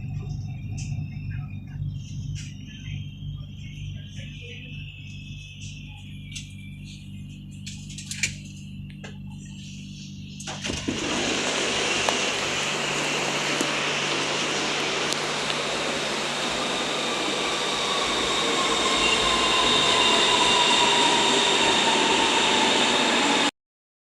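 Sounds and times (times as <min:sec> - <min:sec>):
thin whine falling in pitch: 0:00.0 - 0:23.5
train rumble and rail noise: 0:00.0 - 0:23.5.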